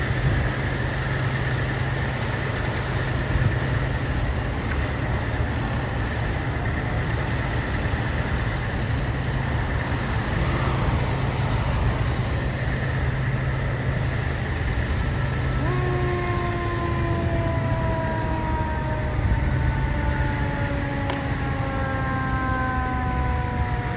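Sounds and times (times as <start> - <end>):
fire engine idling hum: 0.0 - 23.9
water rushing from hydrant: 0.0 - 23.9.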